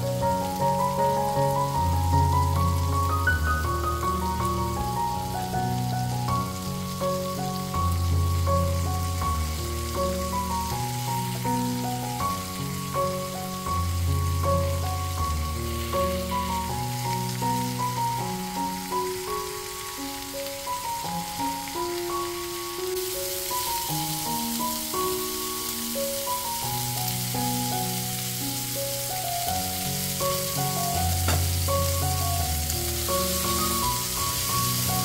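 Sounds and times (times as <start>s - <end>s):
food sizzling in a pan: 0.0s - 35.0s
slow background music with bass: 0.0s - 35.0s.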